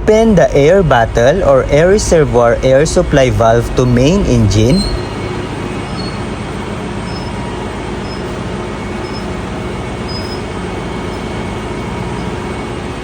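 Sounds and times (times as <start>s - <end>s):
engine-room machinery drone: 0.0s - 13.0s.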